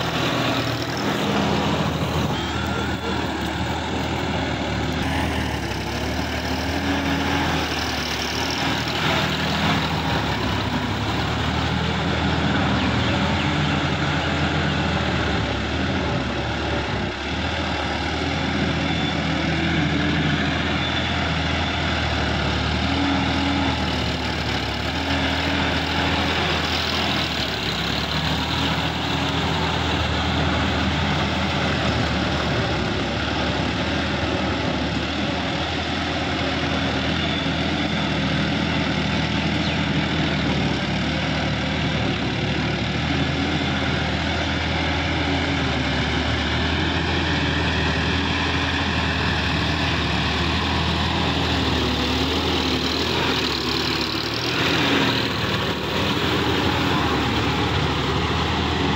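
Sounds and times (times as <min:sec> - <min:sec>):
rotary tiller churning mud: 0:00.0 - 0:58.9
tractor diesel engine running: 0:00.0 - 0:58.9.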